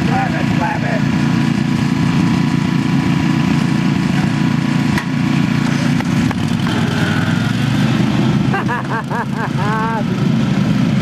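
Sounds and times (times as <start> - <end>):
lawn mower engines running: 0.0 - 11.0.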